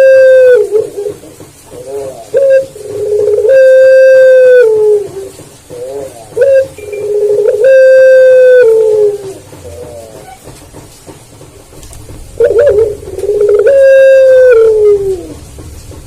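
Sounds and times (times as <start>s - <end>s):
dove cooing: 0.0s - 10.5s, 12.2s - 15.6s.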